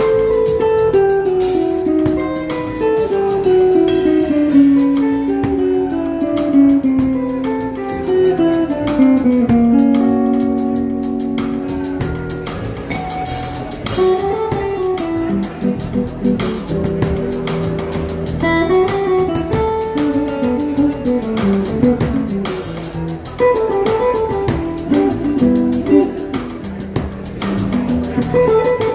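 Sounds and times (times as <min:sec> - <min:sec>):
drums: 0:00.0 - 0:28.9
guitar melody: 0:00.0 - 0:28.9
low accompaniment: 0:00.0 - 0:28.9.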